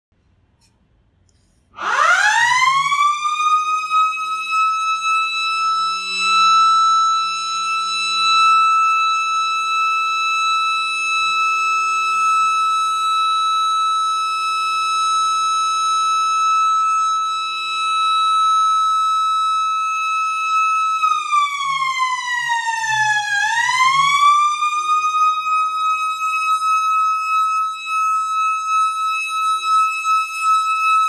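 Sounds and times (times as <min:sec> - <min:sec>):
siren with rising pitch: 0:01.8 - 0:31.0.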